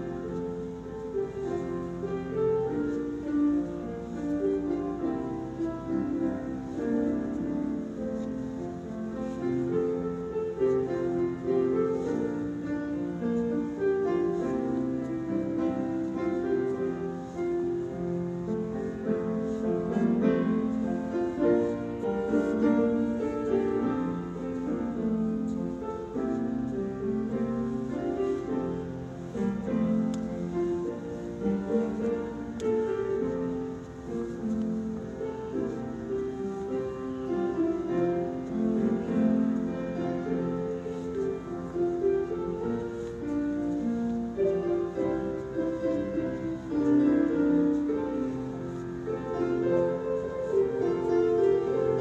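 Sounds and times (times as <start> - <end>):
piano music: 0.0 - 52.0.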